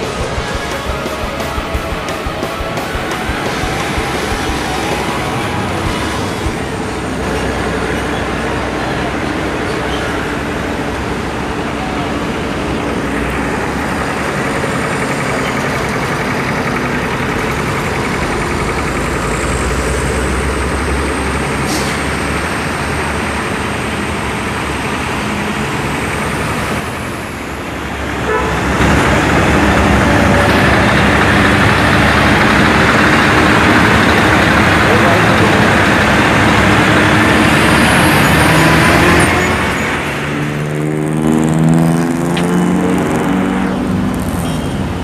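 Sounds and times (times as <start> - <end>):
heavy trailer rumbling: 0.0 - 45.0
truck diesel engine running: 0.0 - 45.0.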